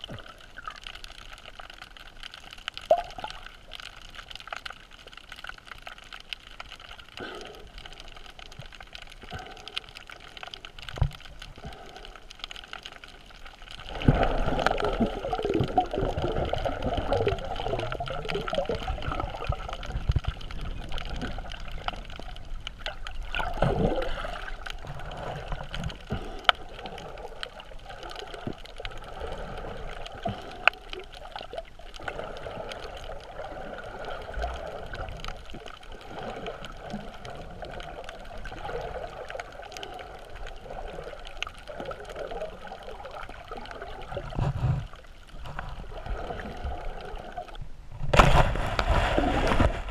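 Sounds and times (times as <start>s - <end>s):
low water surges: 0.0s - 49.9s
underwater water wash: 0.0s - 49.9s.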